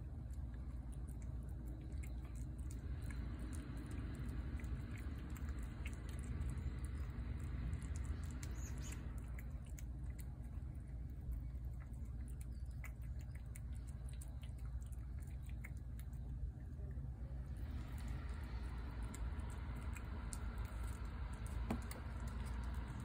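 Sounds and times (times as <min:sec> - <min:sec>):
cat chewing and licking: 0:00.0 - 0:23.0
low steady rumble: 0:00.0 - 0:23.0.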